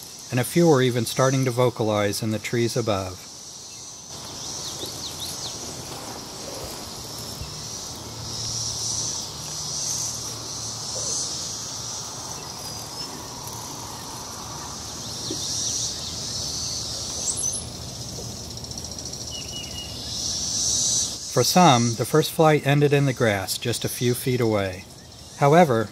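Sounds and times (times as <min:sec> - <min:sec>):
cicadas buzzing: 0:00.0 - 0:25.9.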